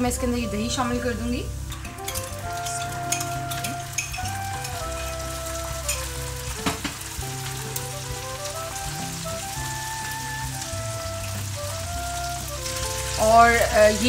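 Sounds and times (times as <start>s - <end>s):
onions sizzling in oil: 0.0s - 14.0s
soft background music: 0.0s - 14.0s.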